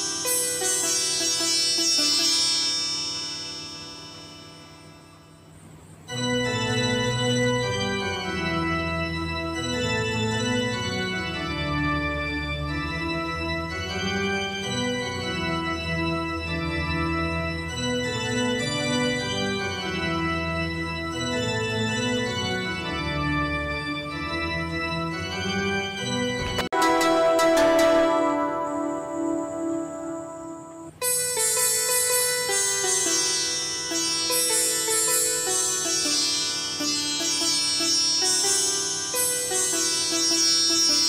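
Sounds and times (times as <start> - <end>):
keyboard chords: 0.0 - 36.5.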